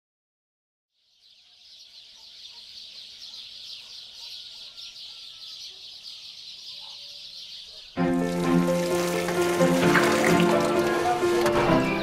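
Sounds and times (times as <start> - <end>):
birds chirping: 0.9 - 12.0.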